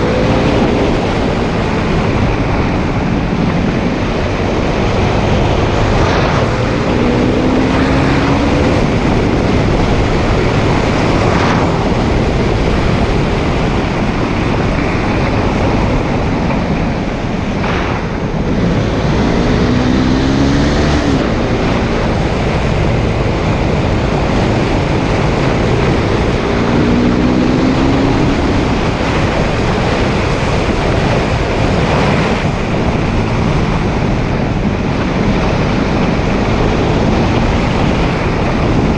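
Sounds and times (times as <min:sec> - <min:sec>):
motorcycle engine accelerating: 0:00.0 - 0:38.9
wind rush on microphone: 0:00.0 - 0:38.9.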